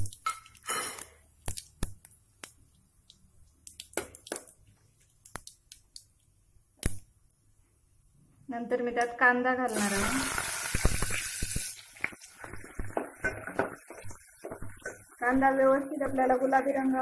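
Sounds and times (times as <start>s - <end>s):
spices crackling in hot oil: 0.0s - 7.0s, 9.7s - 17.0s.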